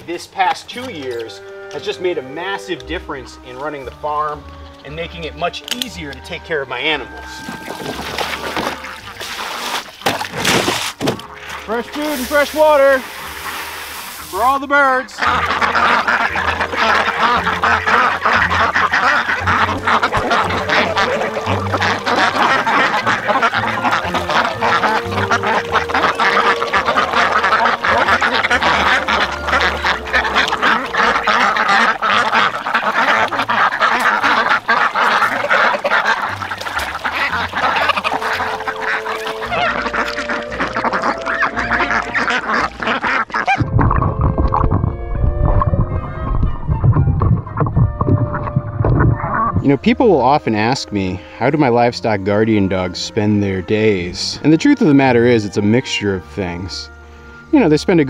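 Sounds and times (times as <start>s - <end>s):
background music: 0.0s - 58.0s
ducks quacking: 0.0s - 58.0s
ducks pecking and jostling: 0.1s - 58.0s.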